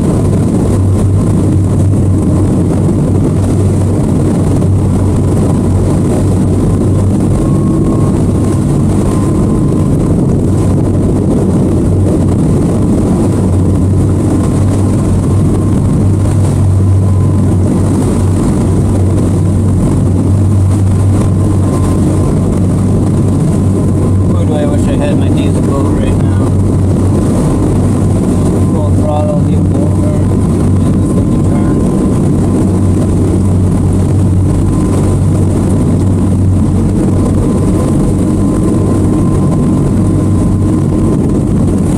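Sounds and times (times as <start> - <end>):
churning wake rushing: 0.0 - 41.9
outboard motors droning: 0.0 - 41.9.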